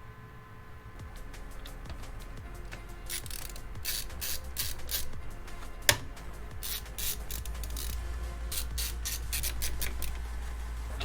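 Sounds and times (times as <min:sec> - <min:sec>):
screwdriver scraping screws: 0:01.1 - 0:10.6.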